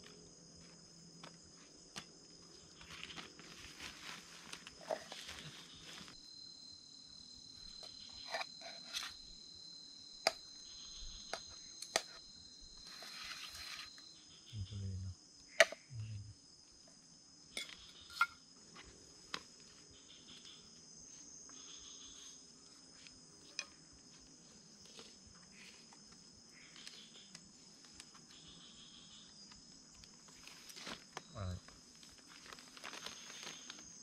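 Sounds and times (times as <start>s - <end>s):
night insects chorus: 0.0s - 34.0s.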